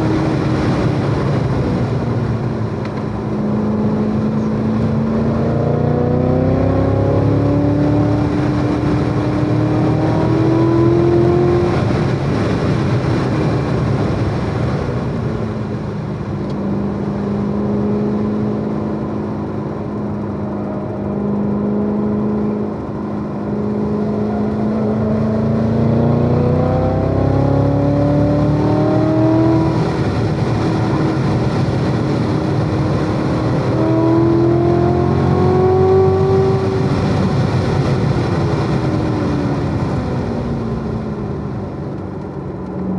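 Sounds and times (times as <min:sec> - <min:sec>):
sports car engine under load: 0:00.0 - 0:42.9.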